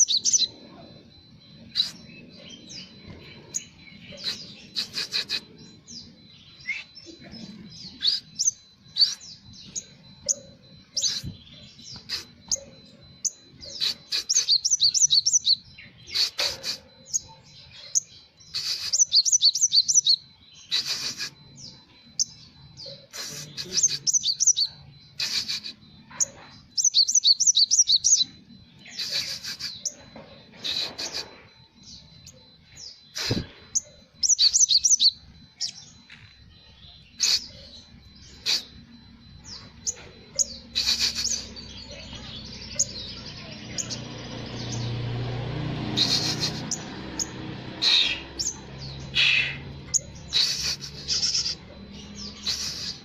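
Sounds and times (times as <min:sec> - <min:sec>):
bird chirping song: 0:00.0 - 0:53.0
sharp bird calls: 0:00.0 - 0:53.0.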